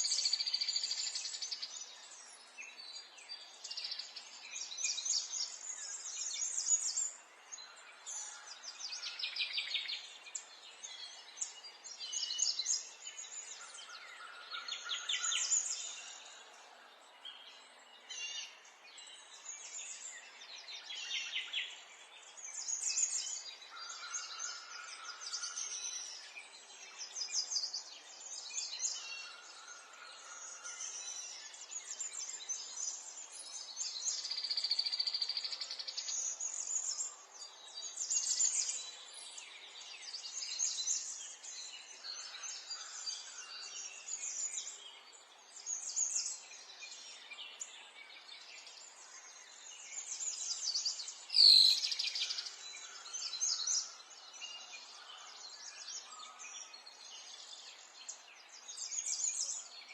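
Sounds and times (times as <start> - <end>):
faint outdoor hiss: 0.0 - 59.9
songbirds chirping and trilling: 0.0 - 59.9.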